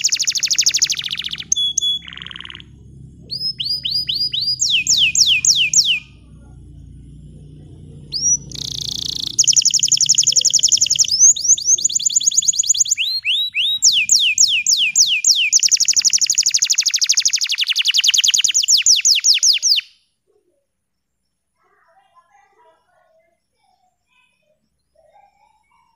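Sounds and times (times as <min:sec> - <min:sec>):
canary singing trills: 0:00.0 - 0:20.0, 0:21.8 - 0:25.9.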